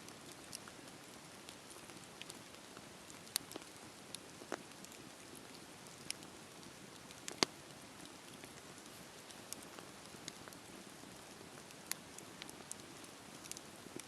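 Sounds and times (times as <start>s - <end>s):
bonfire burning hiss: 0.0s - 14.0s
fire crackles and pops: 0.0s - 14.0s.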